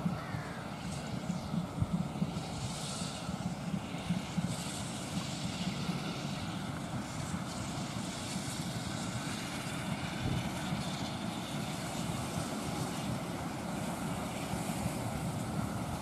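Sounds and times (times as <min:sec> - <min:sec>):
distant steam train rumbling: 0:00.0 - 0:16.0.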